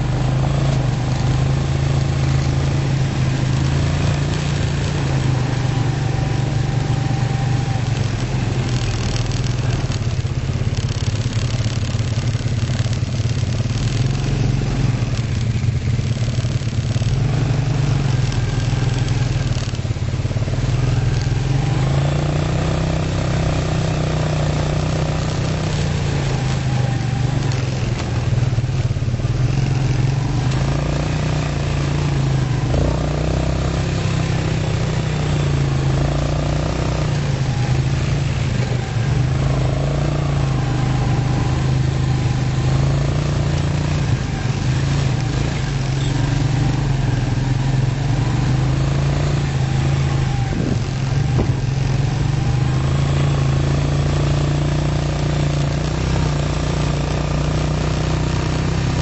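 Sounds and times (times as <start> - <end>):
all-terrain vehicle engine running: 0.0 - 59.0.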